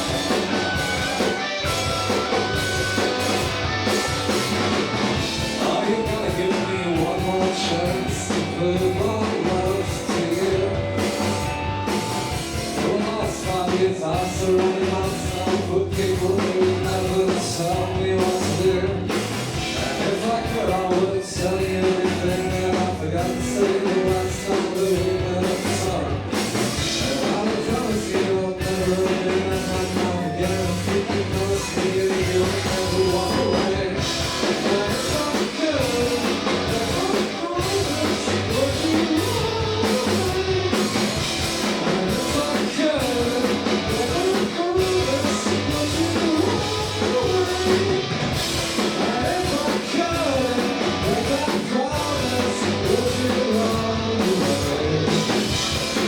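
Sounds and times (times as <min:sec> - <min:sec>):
bass guitar: 0:00.0 - 0:56.0
drum kit: 0:00.0 - 0:56.0
electric guitar: 0:00.0 - 0:56.0
person singing: 0:05.4 - 0:12.0, 0:12.7 - 0:56.0.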